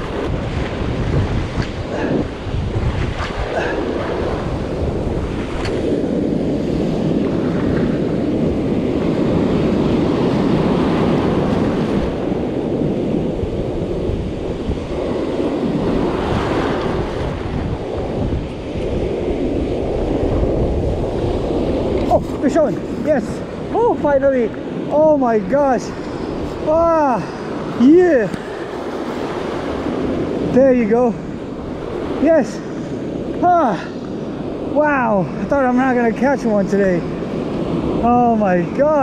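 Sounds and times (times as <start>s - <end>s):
ocean surf breaking: 0.0s - 39.0s
wind on microphone: 0.0s - 39.0s.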